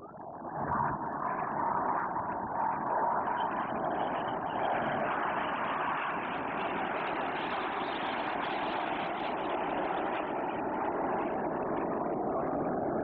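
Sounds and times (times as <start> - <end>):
jets flying low overhead: 0.0 - 13.0.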